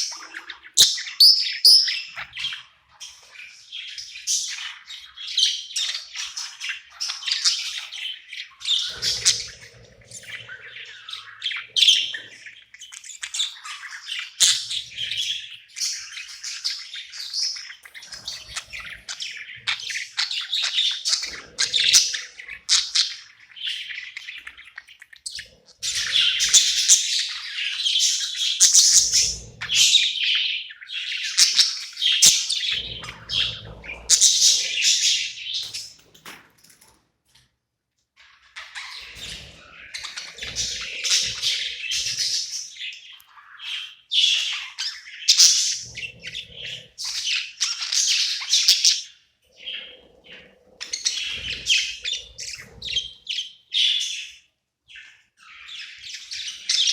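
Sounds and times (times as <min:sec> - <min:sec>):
budgerigar chirping and warbling: 0:00.0 - 0:36.0, 0:38.4 - 0:56.9.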